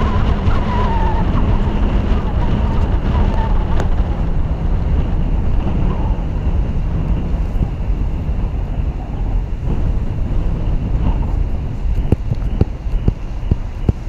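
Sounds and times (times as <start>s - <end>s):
car road and engine noise: 0.0s - 14.0s
wind buffeting microphone: 0.0s - 14.0s.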